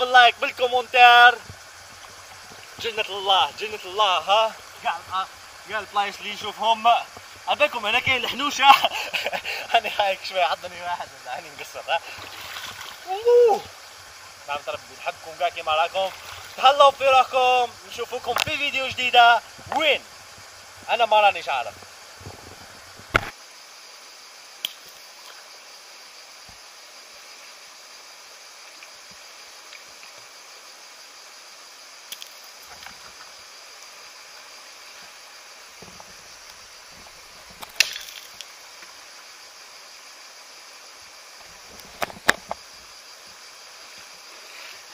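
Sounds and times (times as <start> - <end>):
river running over stones: 0.0 - 23.4, 24.4 - 44.9.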